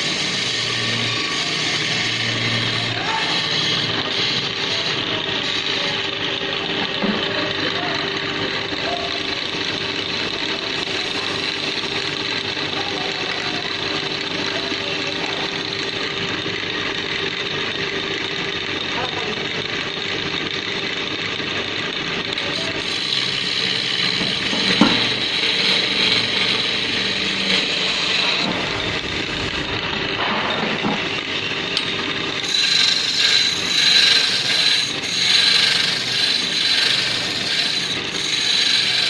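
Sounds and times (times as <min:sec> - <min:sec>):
lathe motor hum: 0:00.0 - 0:39.0
tool cutting spinning wood: 0:00.0 - 0:39.0.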